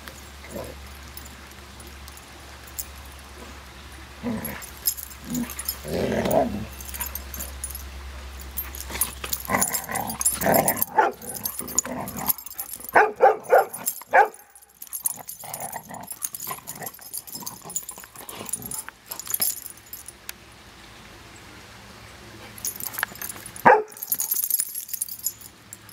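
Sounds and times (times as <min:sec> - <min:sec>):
dogs barking and yipping: 0:00.0 - 0:20.1, 0:22.5 - 0:25.9.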